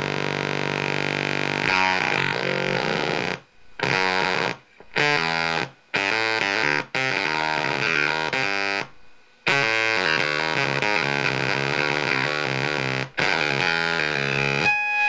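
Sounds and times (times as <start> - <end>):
distorted fuzz guitar tones: 0.0 - 15.0.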